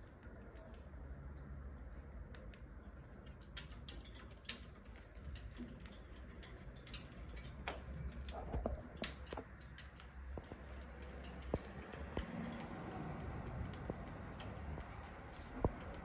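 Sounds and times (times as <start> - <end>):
birds pecking clicks: 0.0 - 16.0.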